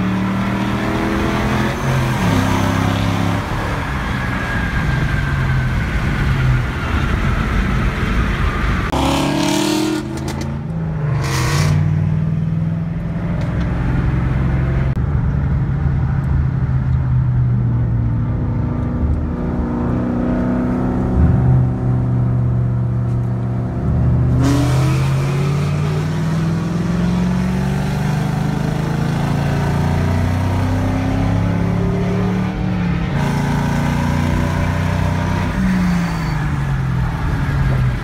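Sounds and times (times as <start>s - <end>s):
car engines accelerating: 0.0s - 38.0s.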